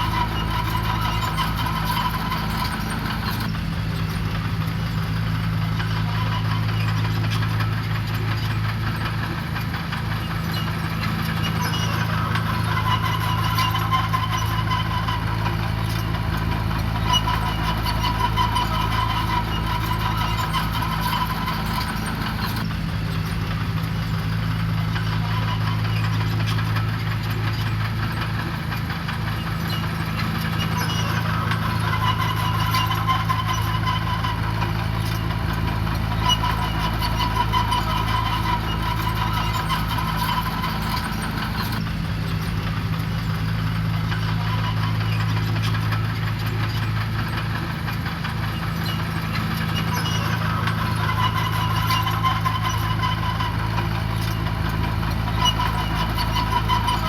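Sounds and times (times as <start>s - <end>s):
diesel engine running: 0.0s - 57.0s
high machine whine: 0.0s - 57.0s.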